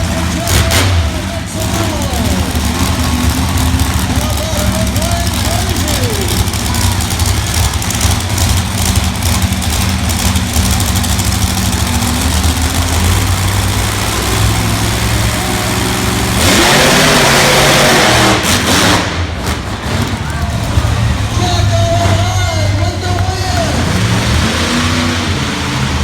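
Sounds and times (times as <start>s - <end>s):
big engine revving: 0.0s - 26.0s.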